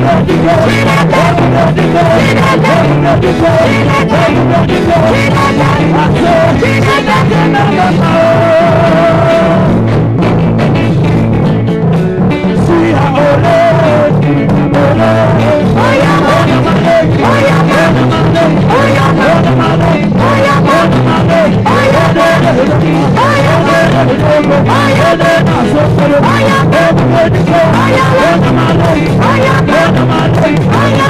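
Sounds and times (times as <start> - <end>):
live gospel band music: 0.0 - 31.0
repeating bass line: 0.0 - 31.0.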